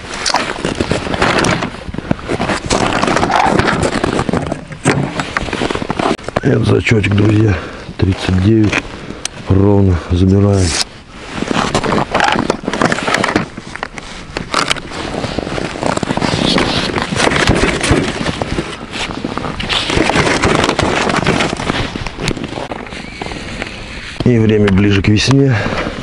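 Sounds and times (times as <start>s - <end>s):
crackling and scraping handling noise: 0.0s - 26.0s.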